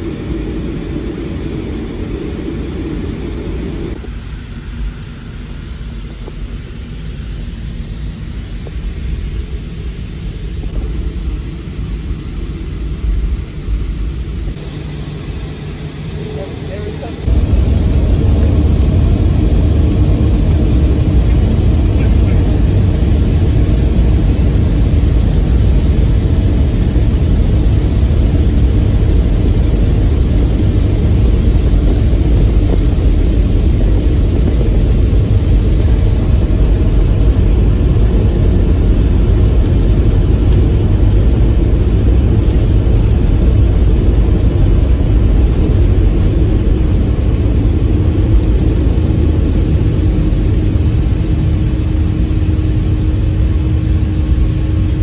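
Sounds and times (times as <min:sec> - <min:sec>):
jet engines at takeoff thrust: 0:00.0 - 0:55.0
low rumble of runway roll: 0:00.0 - 0:55.0.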